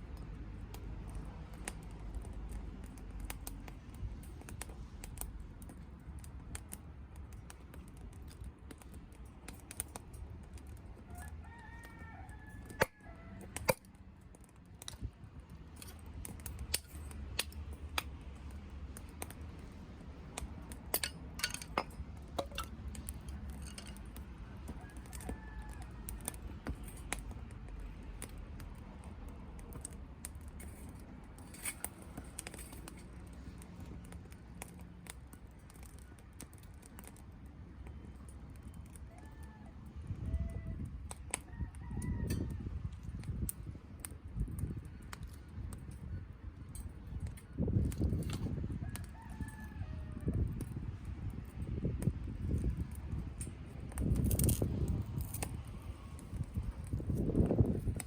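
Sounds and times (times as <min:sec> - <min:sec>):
wood fire crackling and popping: 0:00.0 - 0:39.2, 0:40.8 - 0:49.8, 0:50.4 - 0:58.0.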